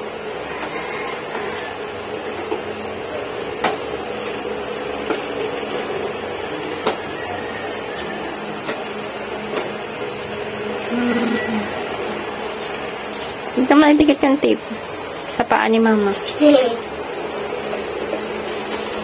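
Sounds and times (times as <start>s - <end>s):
steady room hum: 0.0s - 19.0s.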